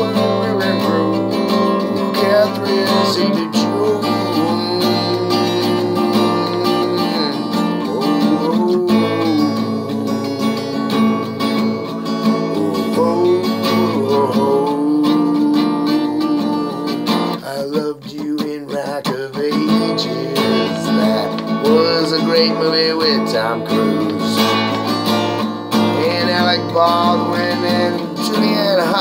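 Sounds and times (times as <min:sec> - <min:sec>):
acoustic guitar strumming chords: 0:00.0 - 0:29.0
man singing: 0:00.0 - 0:29.0.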